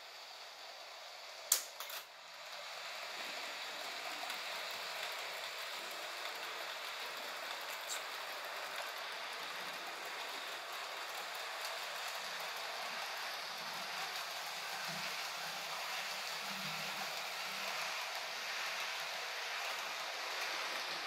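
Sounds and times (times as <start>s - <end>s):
model train whirring on rails: 0.0s - 21.0s.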